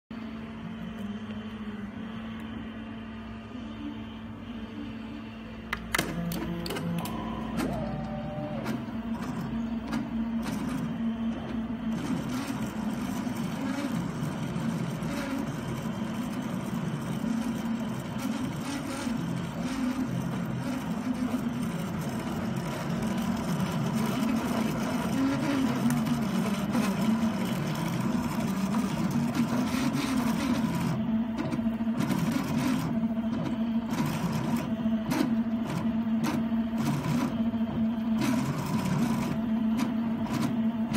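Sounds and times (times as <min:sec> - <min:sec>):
steady hum: 0:00.1 - 0:40.9
stepper motors whirring and buzzing: 0:05.9 - 0:40.9.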